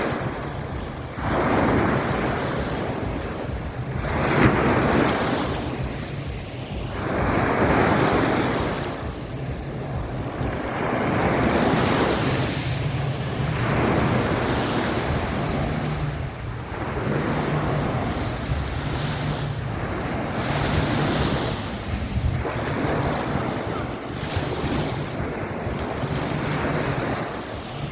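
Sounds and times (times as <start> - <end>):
small waves washing on beach: 0.0 - 27.9
wind buffeting microphone: 0.0 - 27.9.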